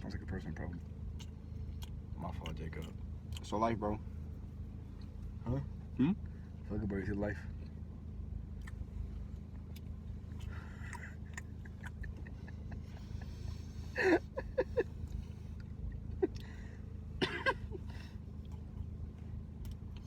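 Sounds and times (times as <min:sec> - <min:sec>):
car engine hum inside cabin: 0:00.0 - 0:20.0.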